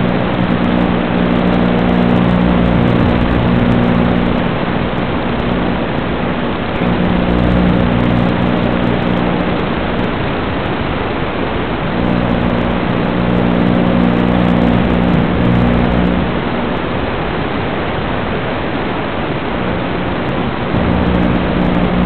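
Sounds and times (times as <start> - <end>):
low even buzz: 0.0 - 22.0
static hiss: 0.0 - 22.0.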